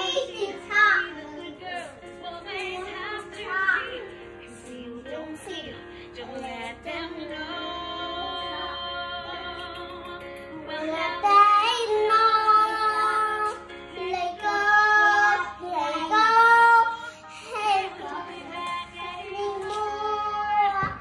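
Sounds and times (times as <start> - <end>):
girl singing: 0.0 - 21.0.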